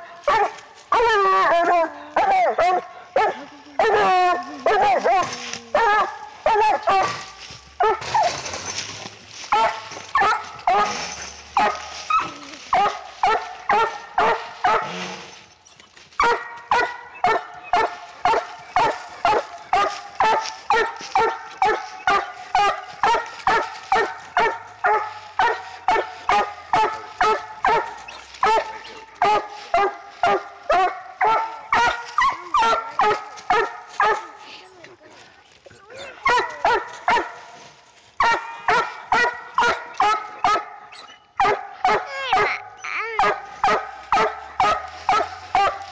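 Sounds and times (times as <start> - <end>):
dog barking: 0.3 - 8.4, 9.5 - 15.0, 16.2 - 34.4, 36.2 - 37.5, 38.2 - 45.9.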